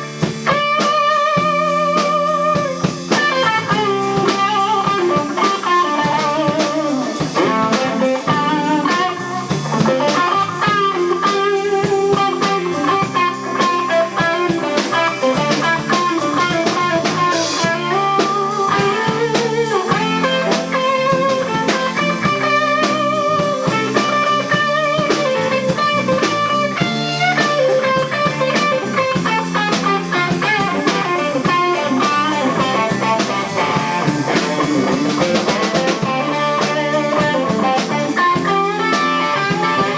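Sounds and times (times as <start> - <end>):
drums: 0.0 - 39.9
overdriven electric guitar solo: 0.0 - 39.9.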